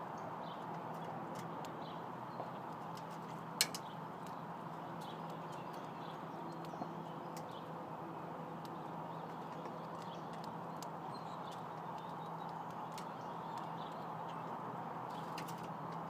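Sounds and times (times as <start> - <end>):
birds pecking light taps: 0.1 - 16.0.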